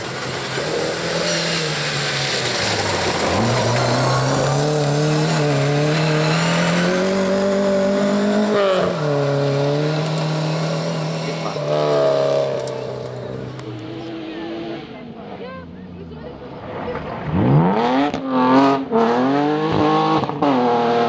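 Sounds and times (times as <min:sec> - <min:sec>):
rally car engine at full throttle: 0:00.0 - 0:21.0.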